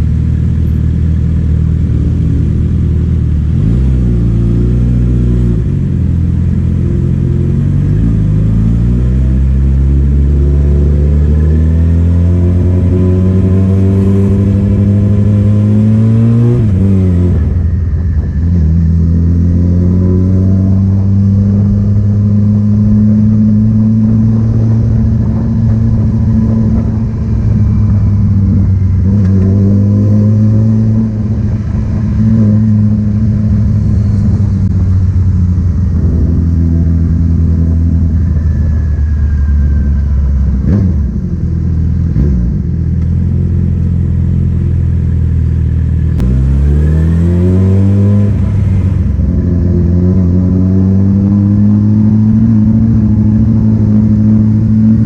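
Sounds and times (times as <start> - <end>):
loud engine running and revving: 0.0 - 55.0.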